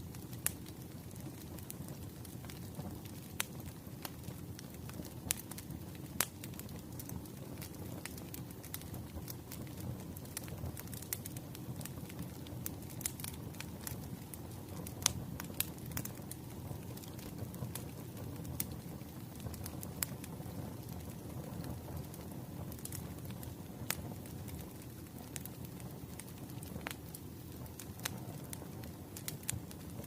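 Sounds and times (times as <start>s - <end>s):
firewood crackling and popping: 0.0s - 30.0s
low rumble of flames: 0.0s - 30.0s.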